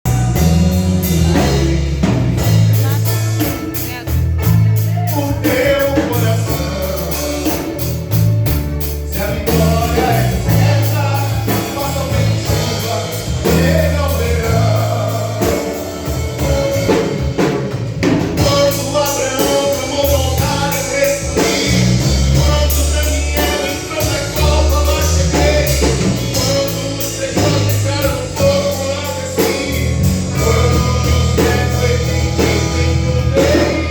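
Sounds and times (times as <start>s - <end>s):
gospel band playing: 0.0s - 33.9s
person singing: 0.0s - 33.9s.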